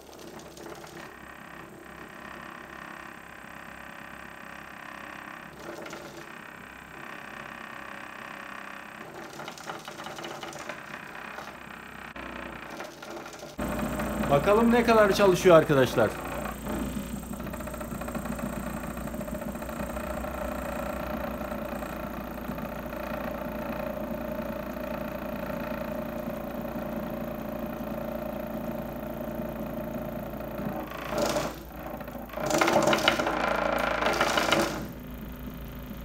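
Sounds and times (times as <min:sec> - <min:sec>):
electric motor whirring: 0:05.4 - 0:36.0.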